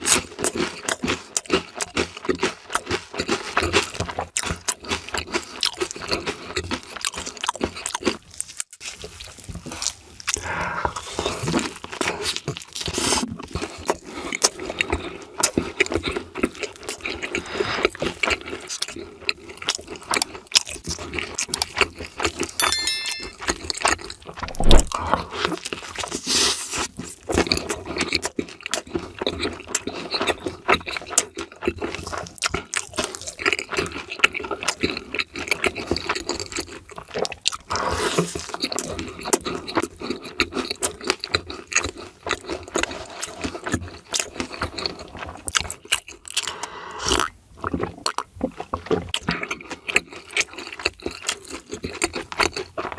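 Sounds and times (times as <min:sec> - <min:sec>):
crunching and chewing fried food: 0:00.0 - 0:22.6, 0:25.0 - 0:52.9.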